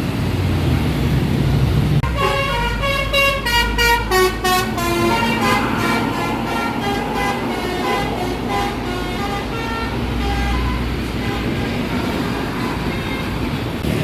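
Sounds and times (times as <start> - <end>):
bus engine rumble: 0.0 - 14.0
bus horn tune: 2.0 - 13.8.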